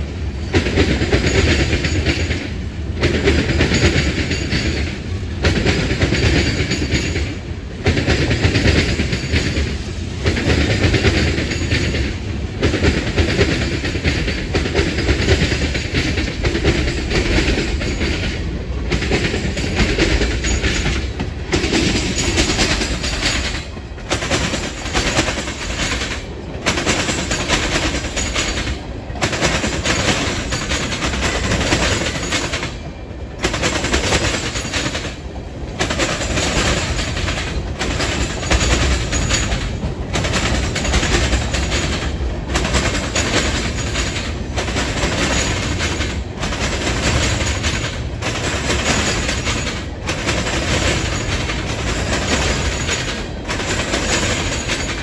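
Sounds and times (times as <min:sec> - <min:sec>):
freight train cars rumbling: 0:00.0 - 0:55.0
steel wheels clattering on rails: 0:00.0 - 0:55.0.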